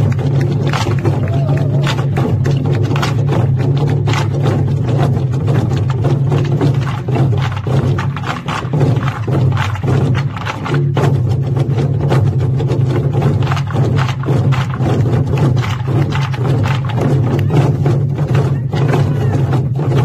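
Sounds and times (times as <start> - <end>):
barrel drums beaten in a fast roll: 0.0 - 20.0.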